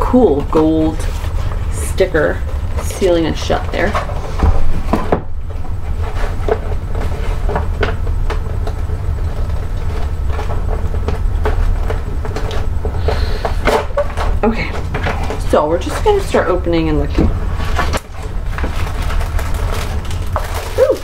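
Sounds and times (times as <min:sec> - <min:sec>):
steady low hum: 0:00.0 - 0:21.0
cardboard box and paper handled: 0:00.3 - 0:21.0.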